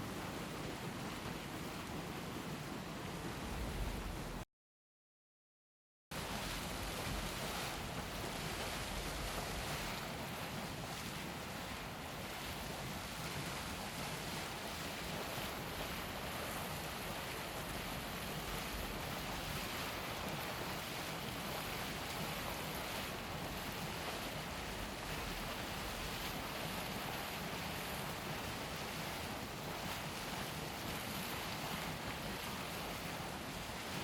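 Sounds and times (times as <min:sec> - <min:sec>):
hot spring water bubbling: 0:00.0 - 0:04.2, 0:06.2 - 0:34.0.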